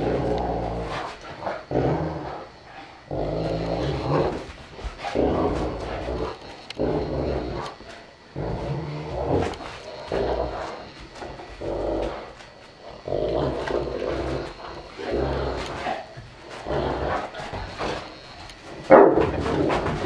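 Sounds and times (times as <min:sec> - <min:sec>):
dogs growling: 0:00.0 - 0:20.0.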